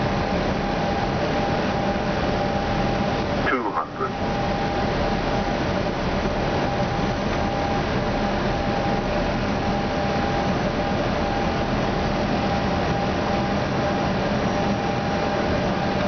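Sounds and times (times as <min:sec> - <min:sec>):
airflow and ventilation hiss: 0:00.0 - 0:15.8
faint constant hum: 0:00.0 - 0:16.0.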